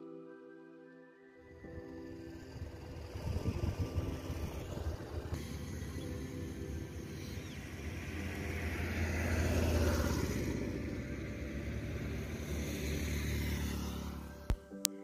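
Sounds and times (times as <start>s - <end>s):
low traffic rumble: 1.5s - 14.6s
vehicle passing: 1.5s - 14.7s.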